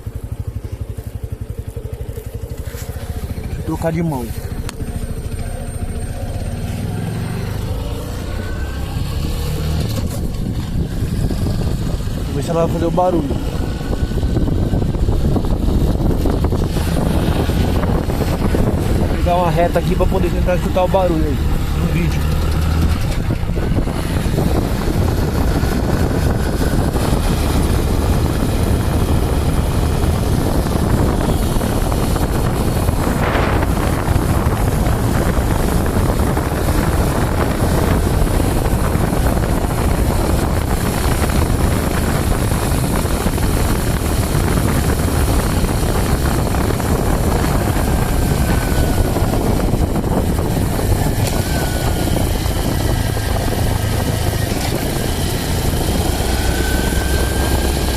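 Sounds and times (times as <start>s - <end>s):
motorcycle engine running: 0.0s - 57.9s
road and wind noise: 0.0s - 57.9s.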